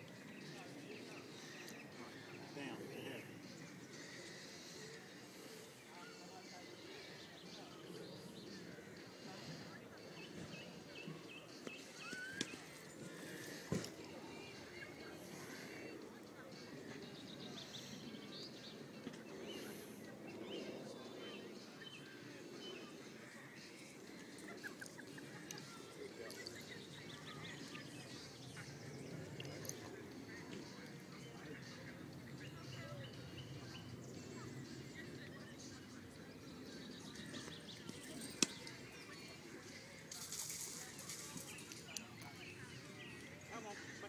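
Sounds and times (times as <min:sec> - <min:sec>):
low even murmur: 0:00.0 - 0:44.0.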